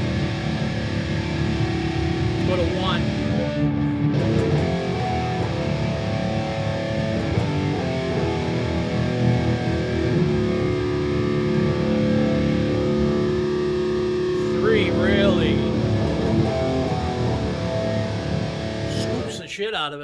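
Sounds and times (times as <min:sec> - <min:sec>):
electric guitar notes: 0:00.0 - 0:19.5.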